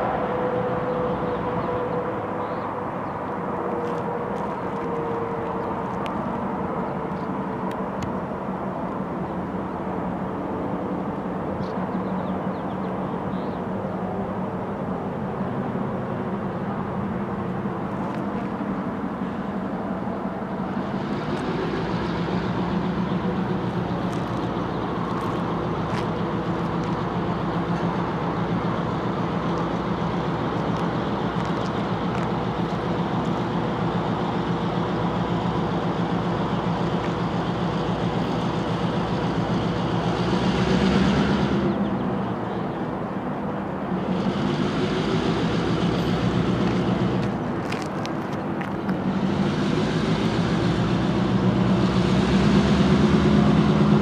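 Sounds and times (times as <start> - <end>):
diesel locomotive engine humming: 0.0 - 54.0.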